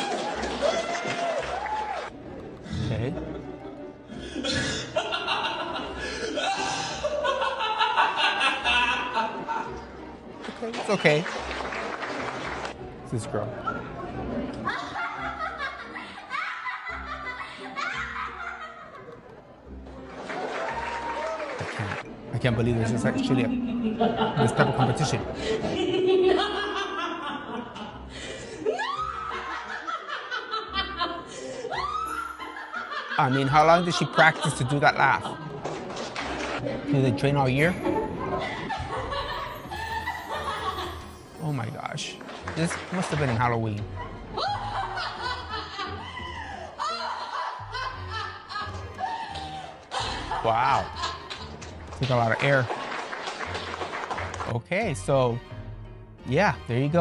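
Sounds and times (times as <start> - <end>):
background music: 0.0 - 57.0.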